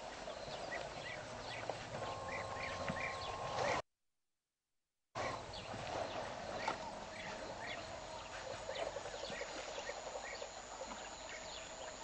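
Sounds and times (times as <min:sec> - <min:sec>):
birds chirping: 0:00.0 - 0:03.8, 0:05.2 - 0:12.0.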